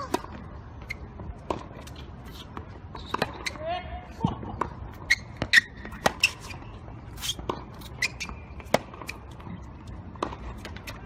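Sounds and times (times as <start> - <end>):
tennis ball strikes and bounces: 1.2 - 3.6, 4.2 - 11.0.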